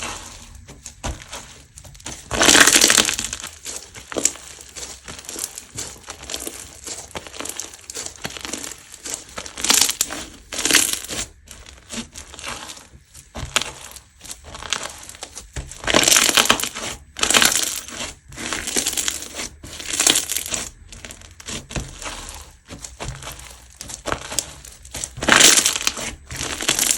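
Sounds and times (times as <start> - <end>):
crunchy slime being squeezed: 0.0 - 26.9.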